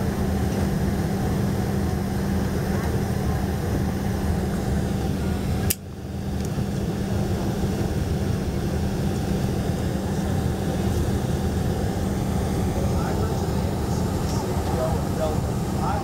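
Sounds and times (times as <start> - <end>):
airliner cabin hum: 0.0 - 16.0.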